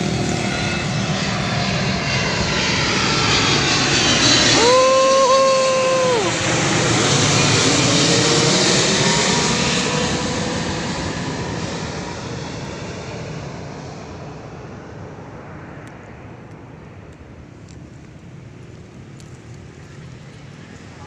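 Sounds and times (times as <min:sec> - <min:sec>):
airplane passing overhead: 0:00.0 - 0:21.0.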